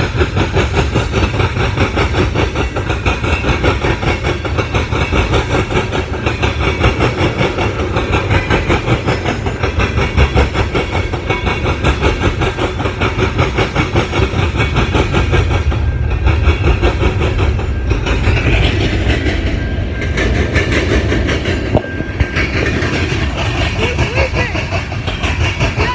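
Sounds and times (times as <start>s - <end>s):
train wheels clattering on rails: 0.0s - 25.9s.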